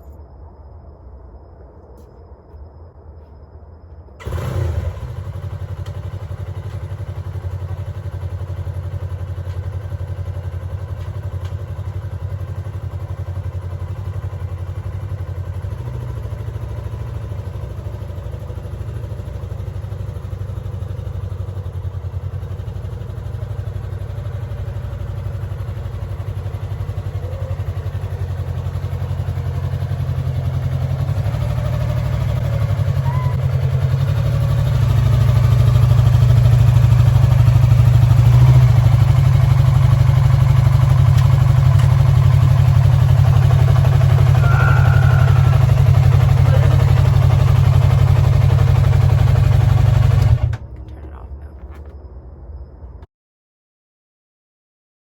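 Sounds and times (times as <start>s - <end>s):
motorcycle engine starting and idling: 4.1s - 52.0s.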